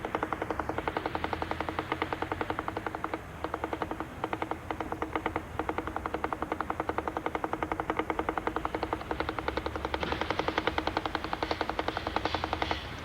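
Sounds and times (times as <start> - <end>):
rapid mechanical clatter: 0.0 - 13.0.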